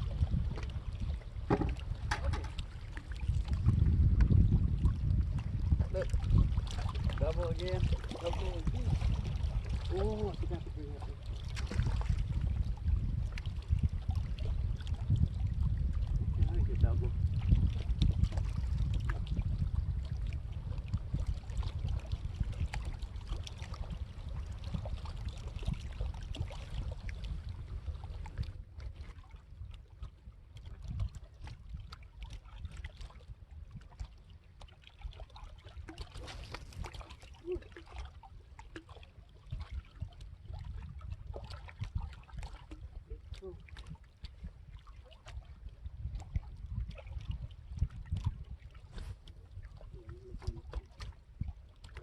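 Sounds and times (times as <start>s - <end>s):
small water splashes: 0.0s - 52.0s.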